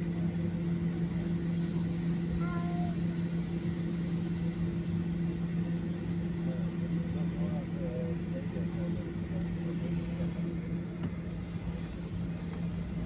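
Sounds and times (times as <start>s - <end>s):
jet engines droning in cabin: 0.0s - 13.0s.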